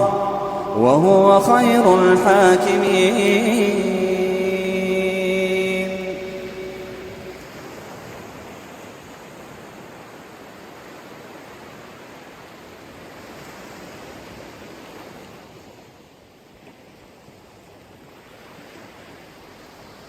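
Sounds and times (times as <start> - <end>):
ocean waves washing onto beach: 0.0 - 20.0.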